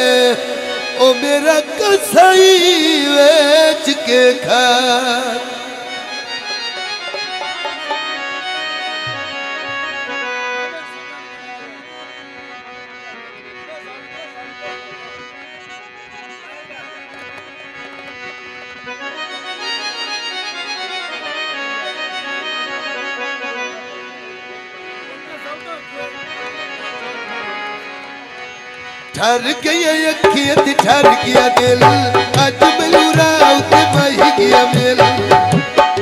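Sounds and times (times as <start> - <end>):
folk instrumental melody: 0.0 - 36.0.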